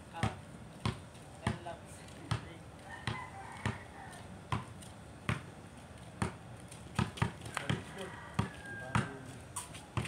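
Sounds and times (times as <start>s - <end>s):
basketball bouncing on concrete: 0.1s - 3.9s, 4.5s - 5.6s, 6.2s - 10.0s.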